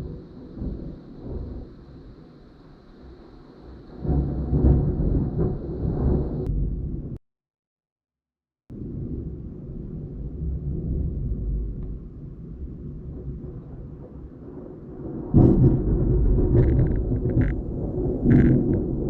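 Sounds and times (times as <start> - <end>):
thunder clap: 0.0 - 7.2, 8.7 - 19.0
thunder crackles: 0.0 - 7.2, 8.7 - 19.0
thunder rumbling: 0.0 - 7.2, 8.7 - 19.0.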